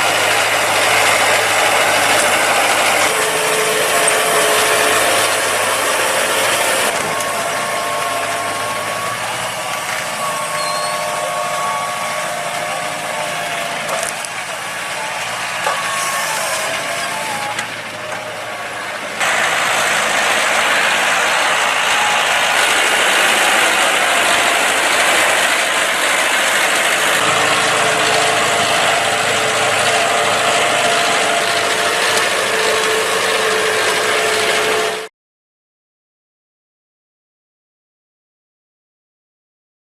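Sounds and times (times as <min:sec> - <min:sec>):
tractor engine running: 0:00.0 - 0:35.1.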